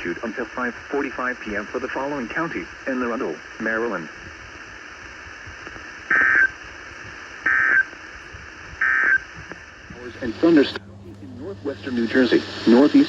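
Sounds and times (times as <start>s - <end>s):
broadcast hiss: 0.0s - 13.0s.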